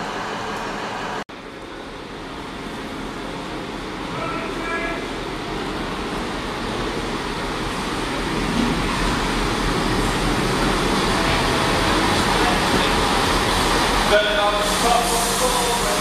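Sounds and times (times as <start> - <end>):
diesel train engine: 0.0 - 16.0
train wheels on rails: 0.0 - 16.0.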